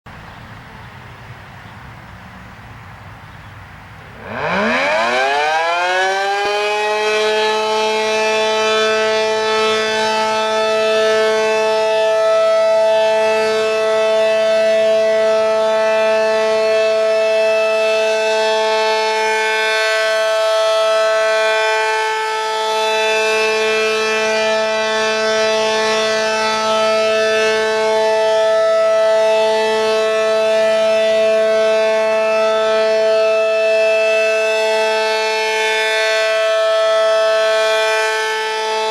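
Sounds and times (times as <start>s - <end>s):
warning siren wailing: 4.0s - 38.9s.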